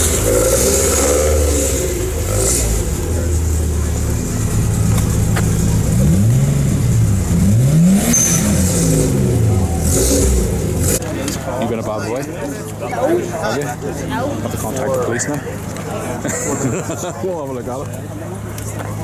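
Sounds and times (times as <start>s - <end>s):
vehicle engine idling and revving: 0.0s - 19.0s.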